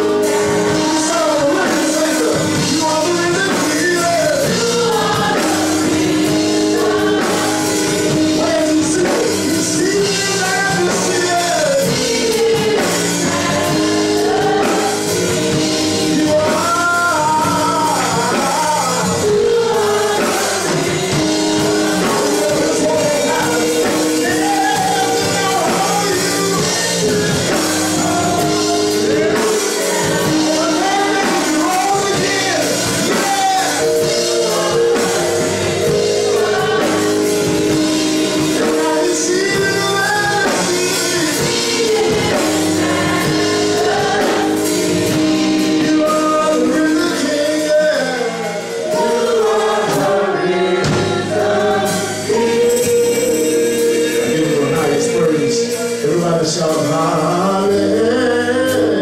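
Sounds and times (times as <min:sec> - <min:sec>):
band holding long chords: 0:00.0 - 0:59.0
church choir singing: 0:00.0 - 0:59.0.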